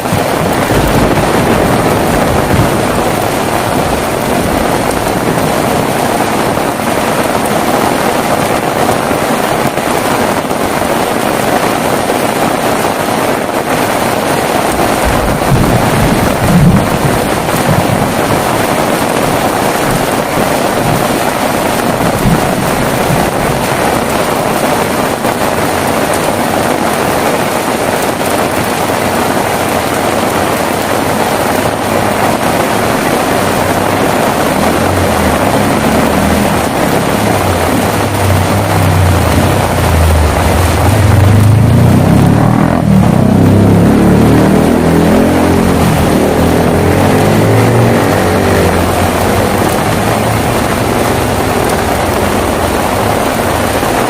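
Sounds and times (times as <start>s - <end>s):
heavy rain falling: 0.0s - 54.0s
thunder rumbling: 0.0s - 54.0s.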